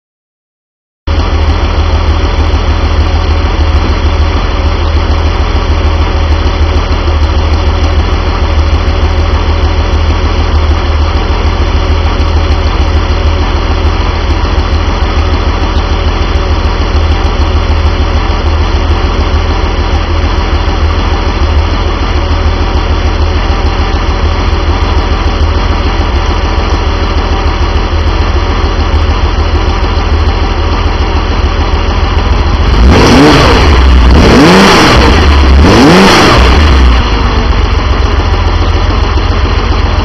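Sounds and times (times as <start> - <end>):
car engine running steadily: 1.1 - 40.0.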